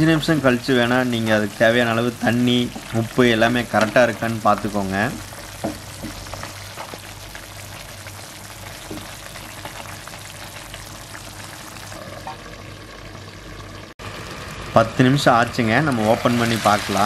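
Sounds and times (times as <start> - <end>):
chicken simmering in a frying pan: 0.0 - 17.0.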